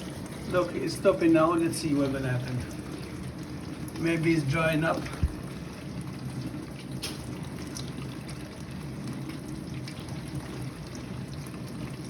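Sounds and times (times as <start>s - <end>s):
steady low hum: 0.0s - 12.0s
water dripping and trickling: 0.0s - 12.0s.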